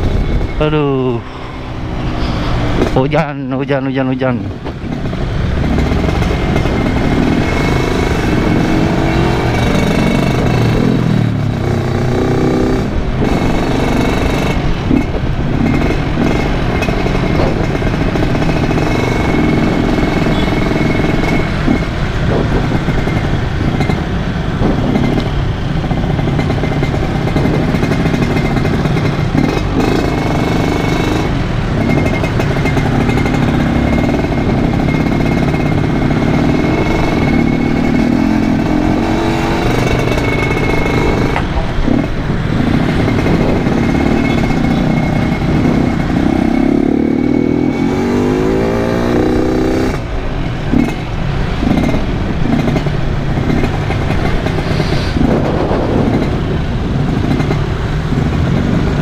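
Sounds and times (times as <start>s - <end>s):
two-stroke motorcycle riding: 0.0s - 59.0s.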